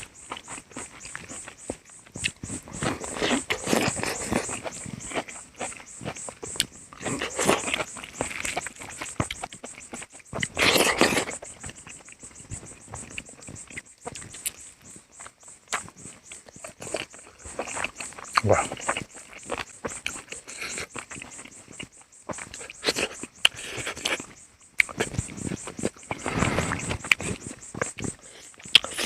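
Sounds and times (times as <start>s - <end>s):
chewing and smacking: 0.0s - 29.0s.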